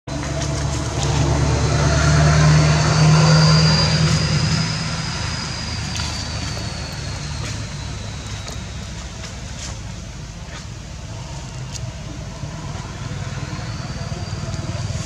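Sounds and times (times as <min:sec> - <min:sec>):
thin high whine: 0:00.1 - 0:15.0
vehicle engine passing: 0:00.1 - 0:15.0.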